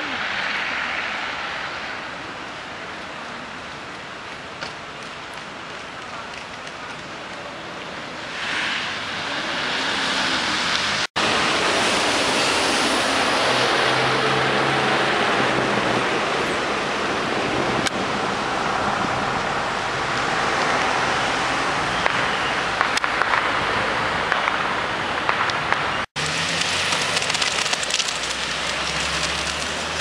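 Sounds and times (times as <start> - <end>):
outdoor rushing noise: 0.0 - 30.0.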